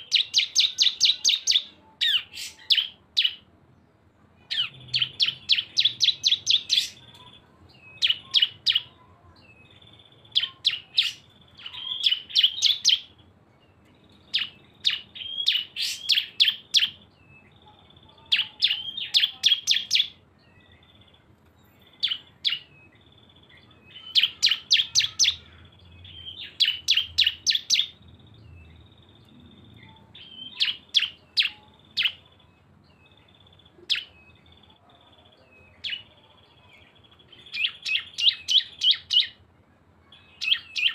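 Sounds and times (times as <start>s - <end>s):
bird chipping song bursts: 0.0s - 3.5s, 4.5s - 39.4s, 40.0s - 40.9s.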